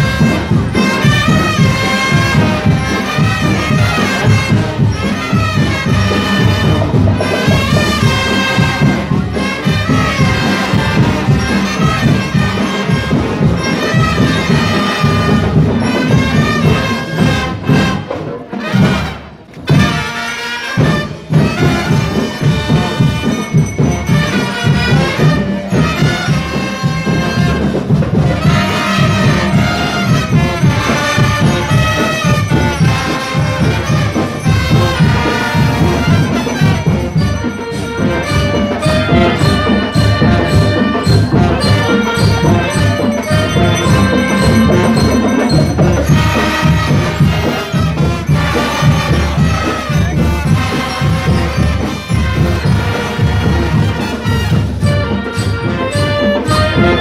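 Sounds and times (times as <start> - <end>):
marching band playing: 0.0 - 57.0
saxophones and clarinets melody: 0.0 - 57.0
steady drumbeat: 0.0 - 57.0.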